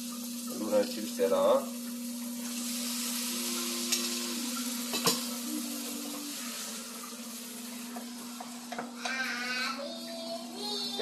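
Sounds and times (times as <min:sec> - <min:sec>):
food sizzling in pans: 0:00.0 - 0:11.0.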